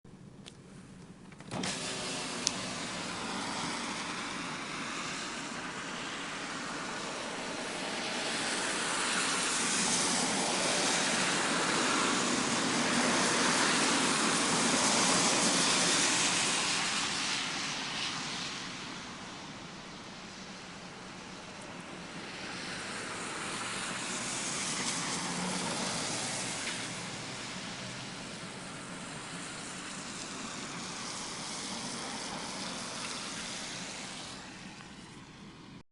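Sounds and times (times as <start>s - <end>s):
tyres hissing on wet road: 1.4s - 35.8s.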